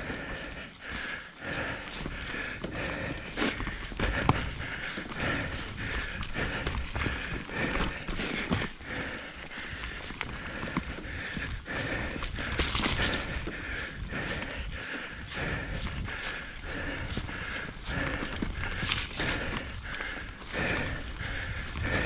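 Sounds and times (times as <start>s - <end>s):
bike rattling and knocking: 0.0s - 22.0s
bike tyres rumbling over dirt: 0.0s - 22.0s.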